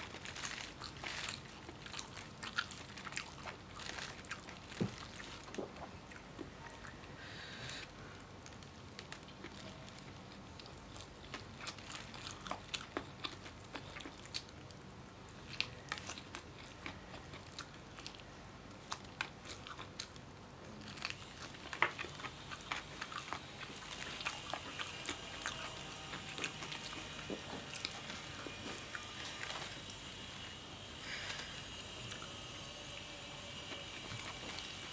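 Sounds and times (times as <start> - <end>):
biting and chewing food: 0.0 - 34.9.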